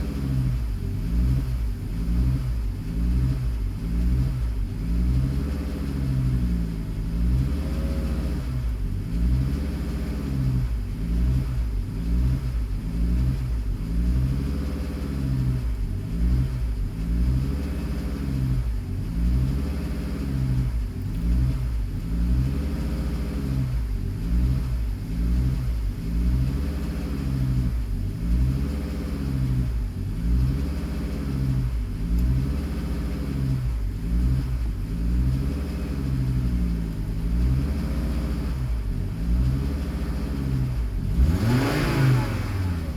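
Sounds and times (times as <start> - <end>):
car engine idling with surge: 0.0 - 42.9.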